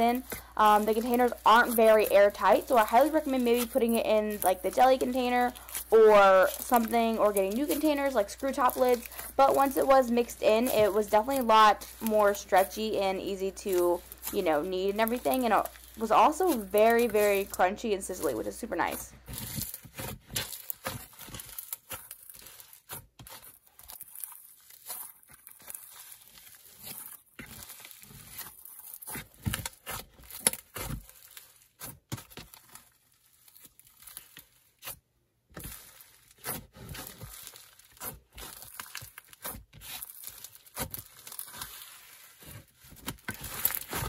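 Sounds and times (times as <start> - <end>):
slime crunching and crackling: 0.0 - 44.0.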